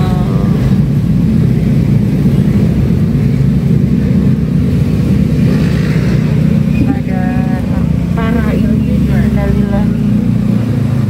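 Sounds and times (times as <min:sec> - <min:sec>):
vehicle driving rumble: 0:00.0 - 0:11.0.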